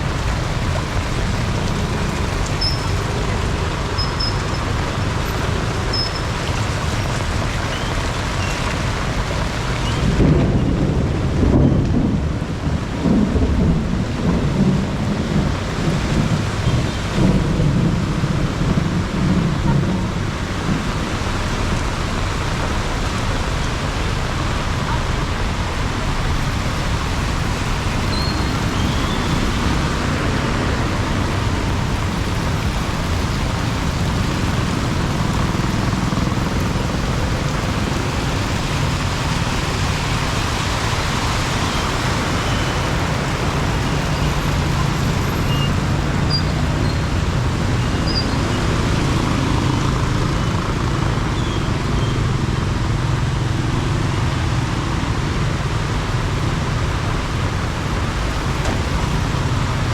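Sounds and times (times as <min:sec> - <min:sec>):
heavy rain falling: 0:00.0 - 0:59.9
road traffic rumble: 0:00.0 - 0:59.9.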